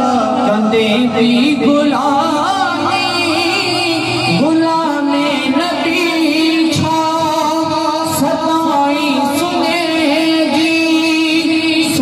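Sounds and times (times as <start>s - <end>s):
man singing into microphone: 0.0s - 12.0s.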